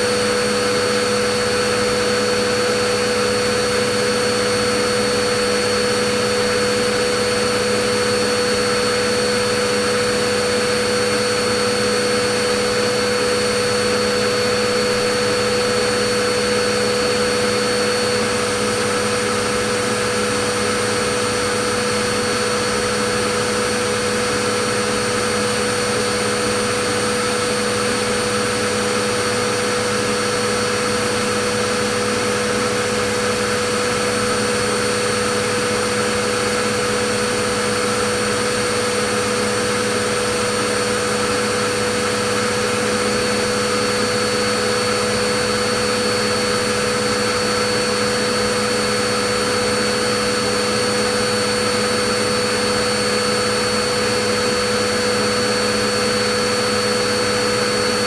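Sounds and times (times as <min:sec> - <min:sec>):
vacuum cleaner motor running: 0:00.0 - 0:58.0.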